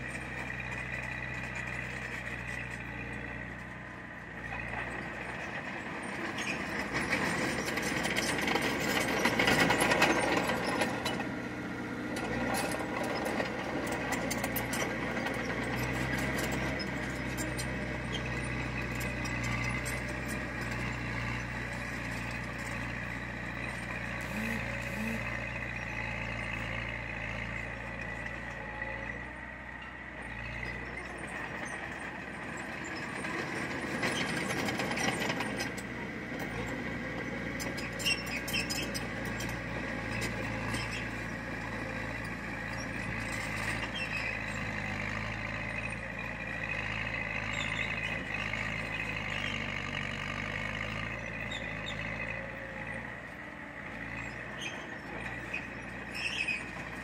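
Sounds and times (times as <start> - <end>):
diesel machinery engine running: 0.0 - 57.0.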